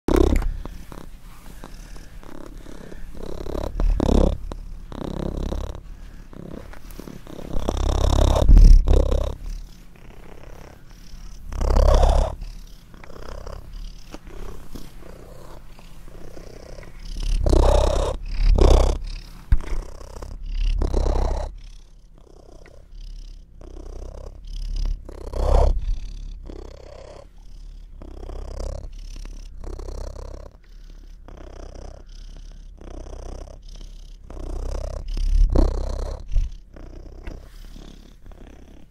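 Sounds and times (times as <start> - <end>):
cat purring loudly: 0.0 - 38.9.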